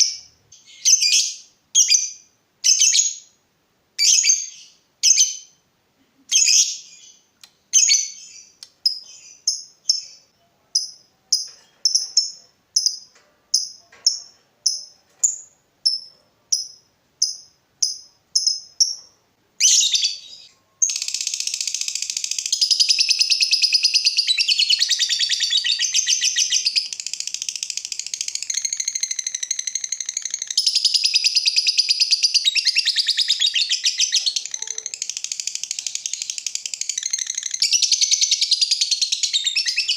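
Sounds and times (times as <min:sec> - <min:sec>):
lovebird chirping and trilling: 0:00.0 - 0:03.3, 0:04.0 - 0:05.6, 0:06.3 - 0:39.9.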